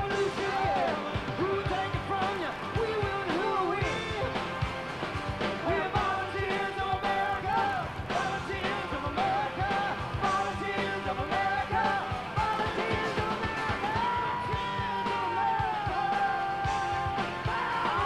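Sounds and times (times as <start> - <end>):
person singing: 0.0 - 4.4, 5.6 - 18.0
rock band playing live: 0.0 - 18.0.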